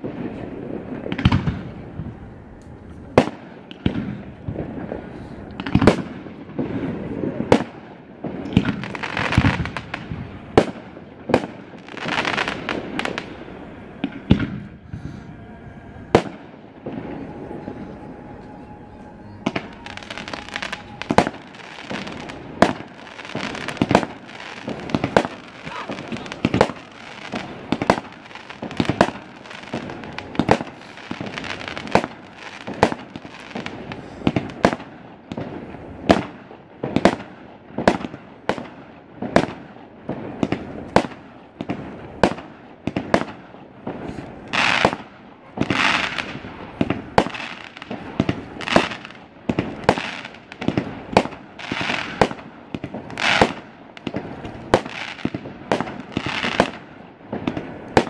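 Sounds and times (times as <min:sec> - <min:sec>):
fireworks bangs: 0:00.0 - 0:58.0
fireworks hissing crackle: 0:00.0 - 0:58.0.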